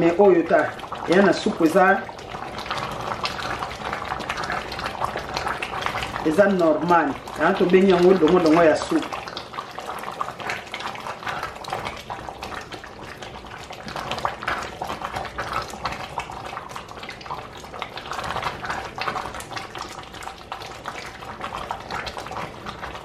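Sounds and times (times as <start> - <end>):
stew bubbling in a pot: 0.0 - 23.0.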